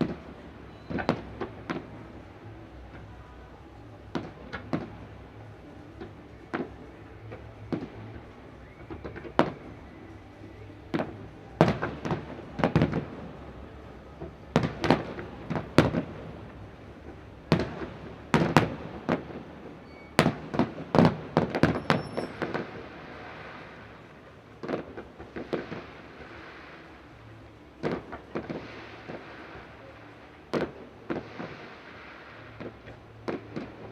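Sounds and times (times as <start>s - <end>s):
fireworks bangs: 0.0s - 3.2s, 4.1s - 33.9s.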